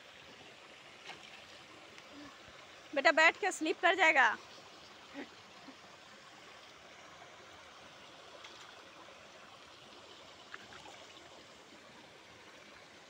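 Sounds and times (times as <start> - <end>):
river flowing between boulders: 0.0 - 13.0.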